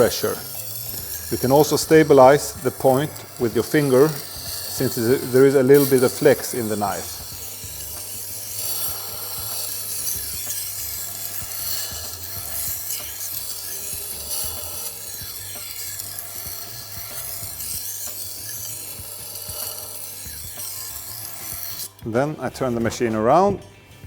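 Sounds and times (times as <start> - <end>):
sharpener motor hum: 0.0 - 22.0
knife grinding on sharpener wheel: 0.0 - 23.1.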